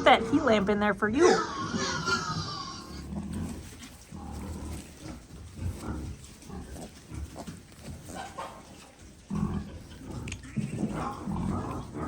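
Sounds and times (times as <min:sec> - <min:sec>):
pig grunting: 0:01.2 - 0:12.0.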